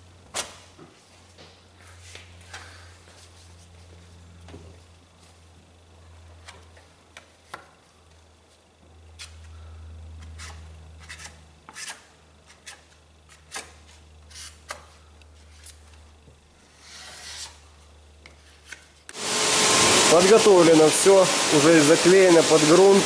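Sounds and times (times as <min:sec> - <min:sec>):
low steady hum: 0:00.0 - 0:19.3.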